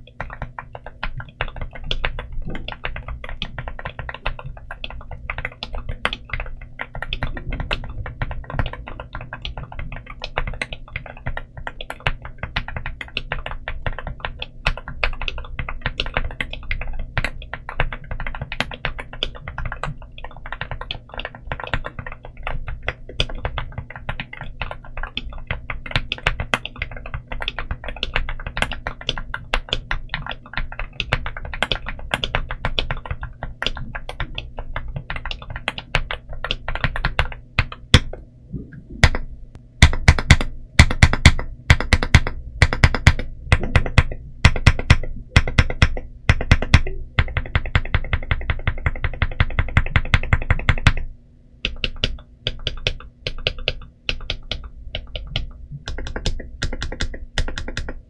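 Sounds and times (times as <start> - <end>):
fast typing on mechanical keyboard: 0.0 - 38.1, 39.8 - 51.1, 51.7 - 58.0.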